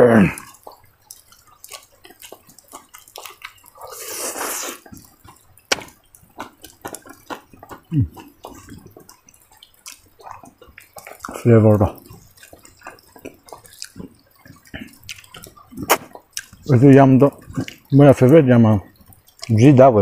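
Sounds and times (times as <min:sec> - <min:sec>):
wet chewing and lip-smacking: 0:00.3 - 0:20.0.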